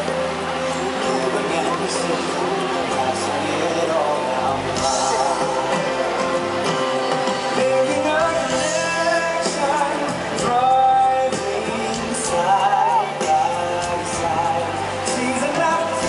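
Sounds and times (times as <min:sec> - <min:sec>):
show music with singing: 0:00.0 - 0:16.0.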